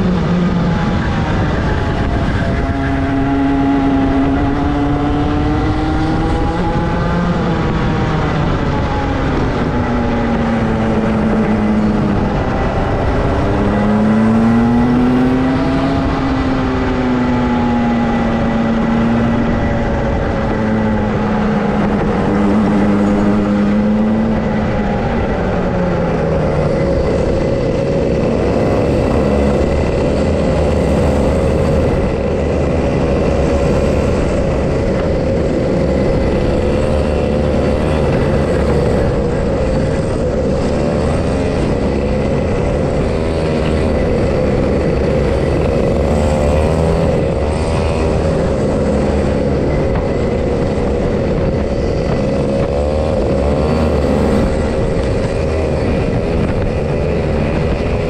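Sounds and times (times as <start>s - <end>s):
kart engine racing: 0.0s - 58.0s.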